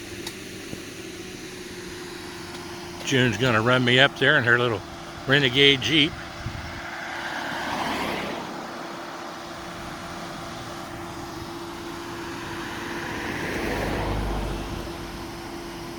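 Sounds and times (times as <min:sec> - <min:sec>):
steady engine hum: 0:00.0 - 0:15.9
vehicles passing: 0:00.0 - 0:15.9.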